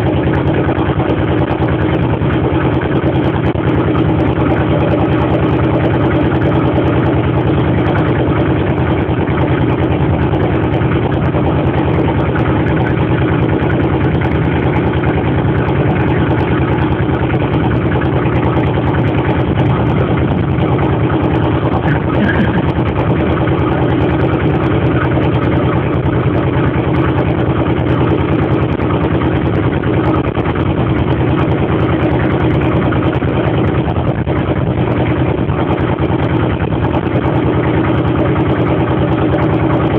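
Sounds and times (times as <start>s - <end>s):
ferry engine droning: 0.0s - 39.9s.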